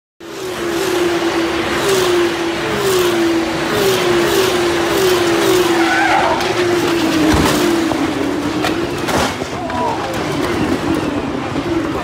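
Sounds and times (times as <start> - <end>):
race cars passing at high revs: 0.2 - 12.0.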